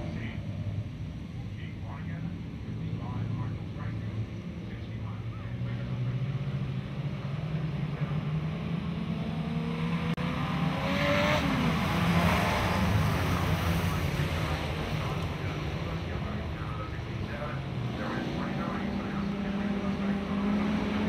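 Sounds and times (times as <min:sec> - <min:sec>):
race car engines: 0:00.0 - 0:21.0.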